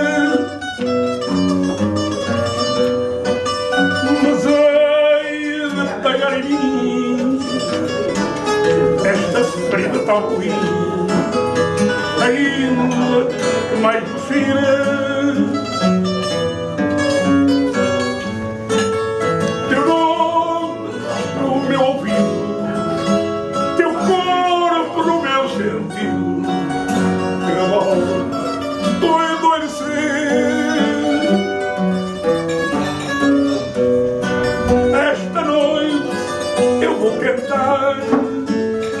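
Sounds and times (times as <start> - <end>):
guitar playing quick melodic runs: 0.0 - 39.0
plucked guitar chords: 0.0 - 39.0.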